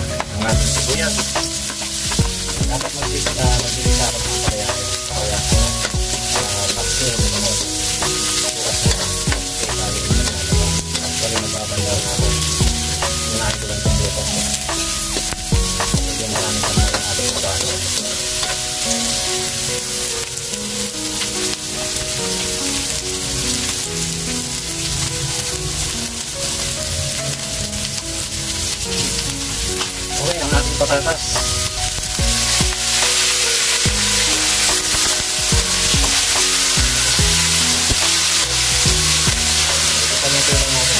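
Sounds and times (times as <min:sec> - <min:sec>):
onion and garlic sizzling in oil: 0:00.0 - 0:40.9.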